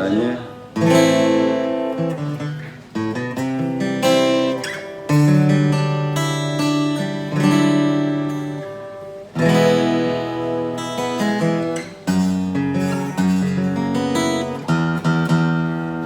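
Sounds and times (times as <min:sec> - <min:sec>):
acoustic guitar chords strummed: 0:00.0 - 0:16.0.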